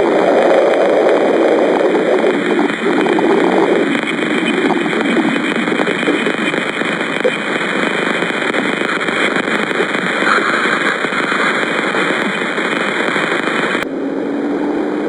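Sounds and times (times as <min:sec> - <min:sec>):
dense static crackling: 0:00.0 - 0:13.9.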